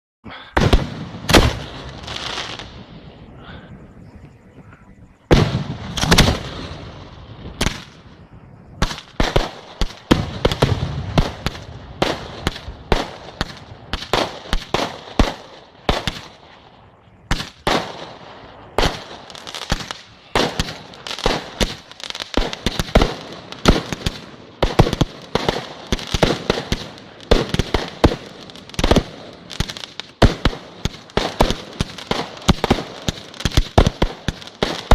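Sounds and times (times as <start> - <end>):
deep fireworks booms: 0.2 - 34.9
fireworks bursting: 0.5 - 34.9.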